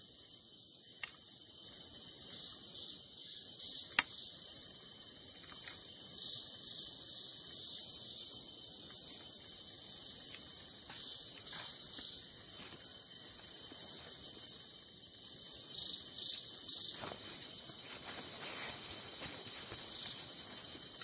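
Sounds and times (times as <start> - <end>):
high-pitched insect whine: 0.0 - 21.0
lower pulsing insect buzz: 0.0 - 21.0.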